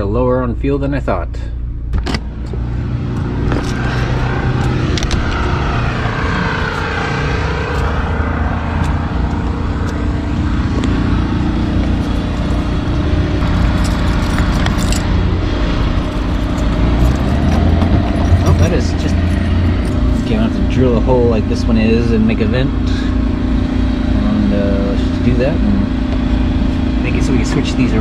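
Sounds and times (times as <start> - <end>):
portable generator humming: 1.6 - 28.0.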